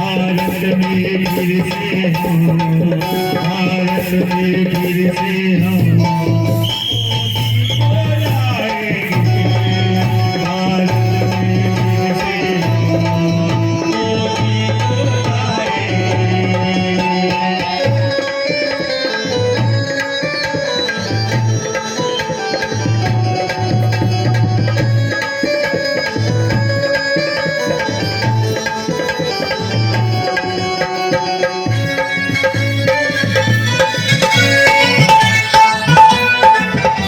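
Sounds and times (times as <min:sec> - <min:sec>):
hand-drum percussion: 0:00.0 - 0:37.0.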